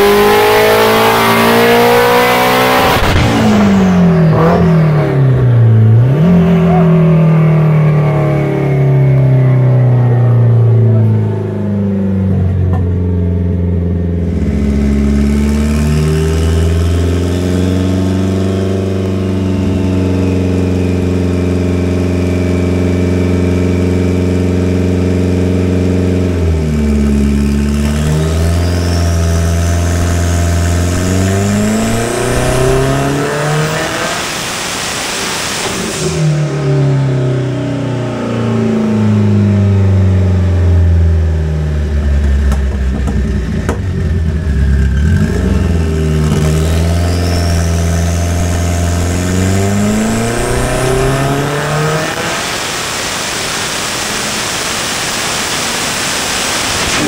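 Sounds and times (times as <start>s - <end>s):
car engine revving on dyno: 0.0s - 13.0s, 13.8s - 57.0s
high turbo whine: 0.0s - 57.0s.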